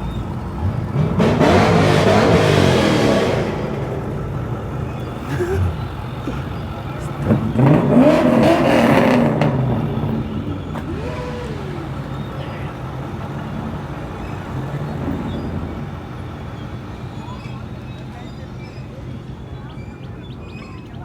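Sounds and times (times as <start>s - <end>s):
car engine revving: 0.0s - 18.1s.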